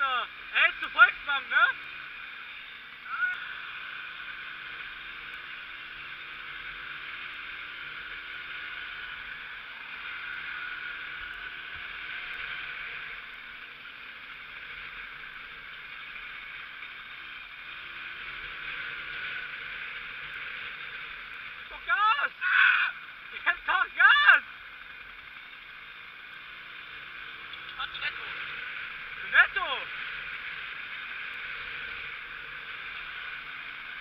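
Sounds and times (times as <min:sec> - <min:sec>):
moped engine running: 0:00.0 - 0:34.0
wind and road noise: 0:00.0 - 0:34.0.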